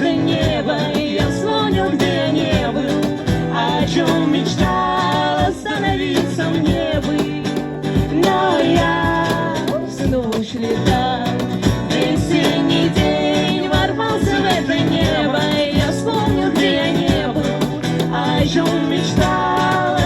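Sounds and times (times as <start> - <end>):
guitar: 0.0 - 20.0
person singing: 0.0 - 20.0
steady drum beat: 0.0 - 20.0.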